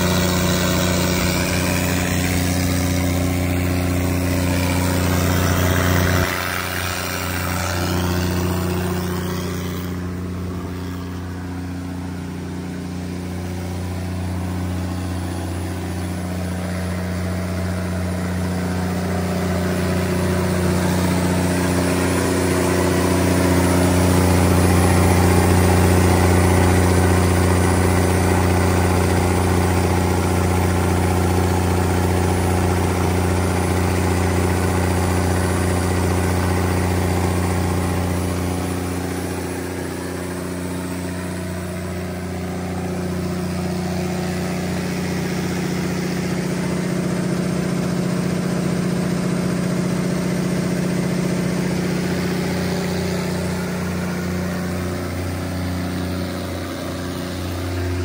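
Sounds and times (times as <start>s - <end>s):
radiator fan: 0.0s - 47.6s
diesel generator running: 0.0s - 58.0s.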